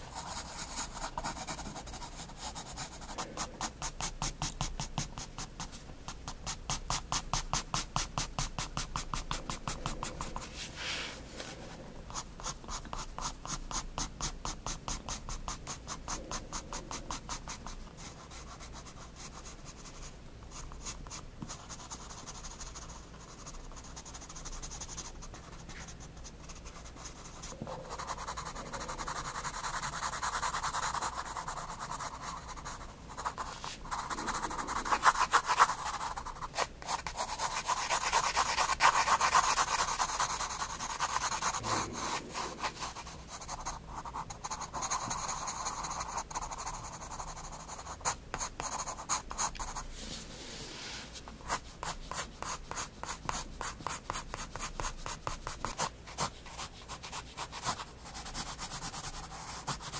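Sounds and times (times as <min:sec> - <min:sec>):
pencil scratching on paper: 0:00.0 - 0:20.0, 0:20.7 - 0:59.9.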